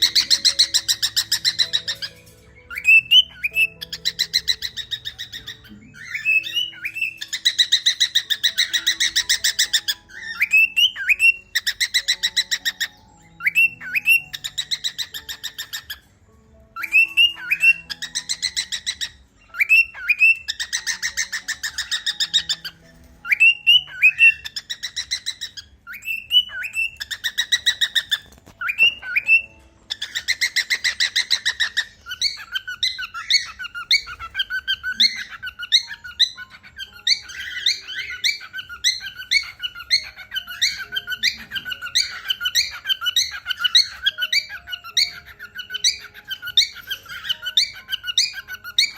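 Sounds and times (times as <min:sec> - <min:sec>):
cockatiel raspy chattering: 0:00.0 - 0:16.0, 0:16.8 - 0:48.9
cockatiel whistled calls: 0:00.0 - 0:48.9.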